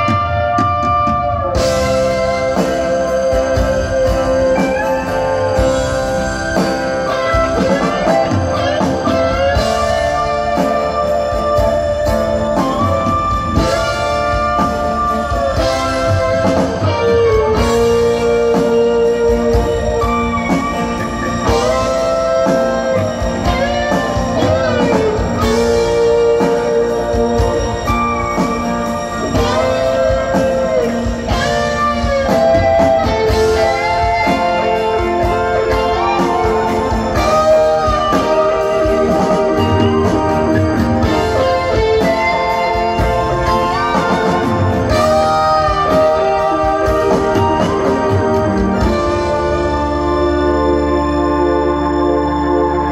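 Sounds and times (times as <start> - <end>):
drums: 0.0 - 52.9
electric lead guitar bending notes: 0.0 - 52.9
live rock band: 0.0 - 52.9.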